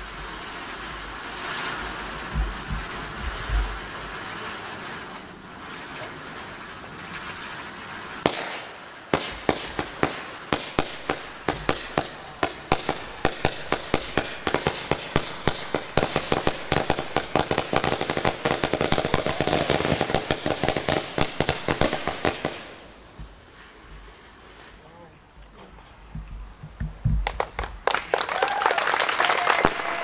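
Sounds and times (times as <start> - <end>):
fireworks firing: 0.0 - 30.0
steady hiss: 0.0 - 30.0.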